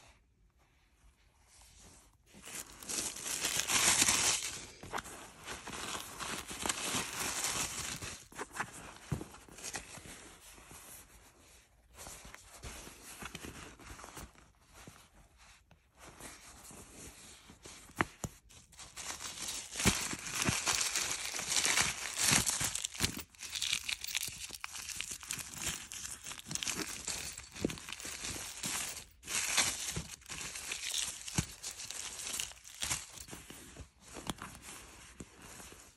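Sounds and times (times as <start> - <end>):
tissue paper rustling: 1.9 - 11.0, 16.0 - 35.9.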